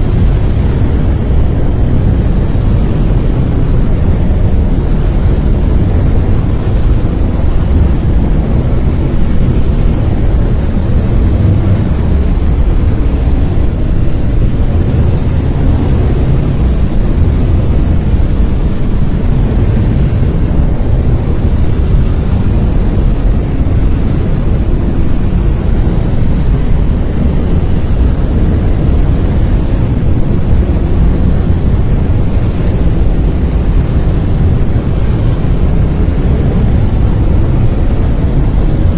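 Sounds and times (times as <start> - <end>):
brown noise: 0.0 - 38.9.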